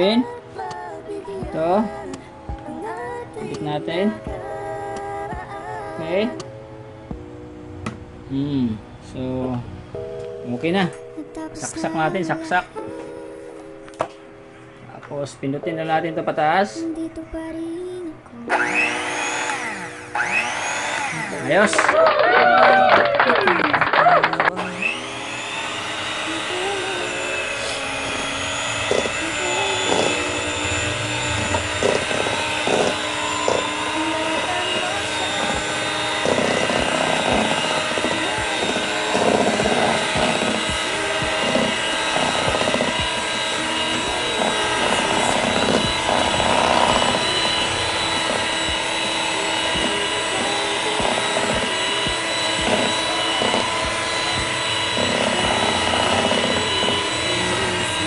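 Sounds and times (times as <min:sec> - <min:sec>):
electric hand mixer whining: 0:00.0 - 0:08.1, 0:18.4 - 0:58.0.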